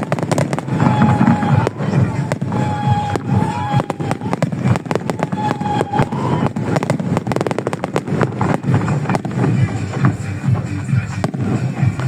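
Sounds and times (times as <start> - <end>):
firework whistling: 0.0 - 12.0
fireworks bangs: 0.0 - 12.0
low booming: 0.0 - 12.0
rapid firework crackling: 0.0 - 12.0.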